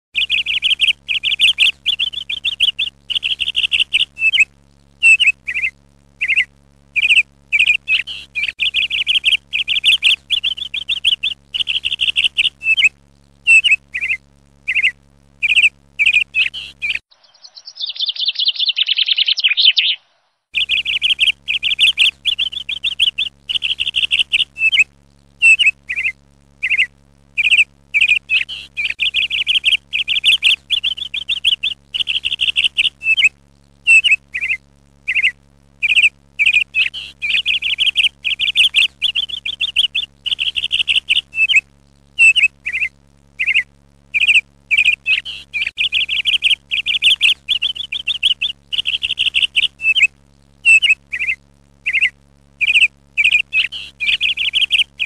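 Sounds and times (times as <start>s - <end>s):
birds chirping: 0.2s - 12.9s, 13.5s - 33.3s, 33.9s - 41.6s, 42.2s - 55.0s
higher bird twittering: 0.2s - 12.9s, 13.5s - 20.0s, 20.6s - 33.3s, 33.9s - 41.6s, 42.2s - 50.1s, 50.7s - 55.0s.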